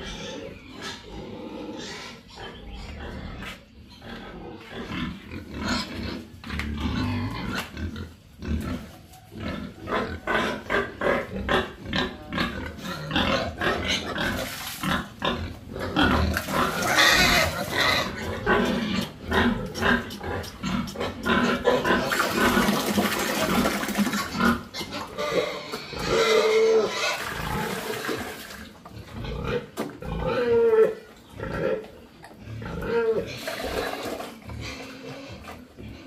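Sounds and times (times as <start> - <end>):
pigs grunting and calling: 0.0 - 36.0.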